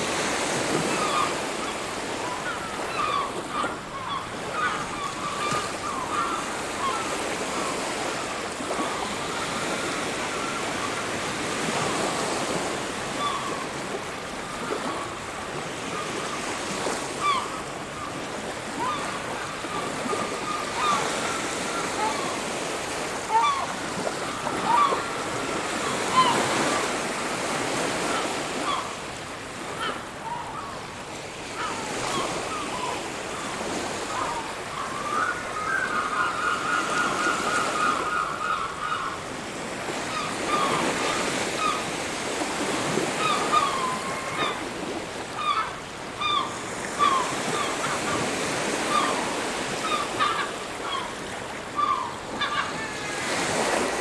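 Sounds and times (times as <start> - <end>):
ocean surf on a beach: 0.0 - 54.0.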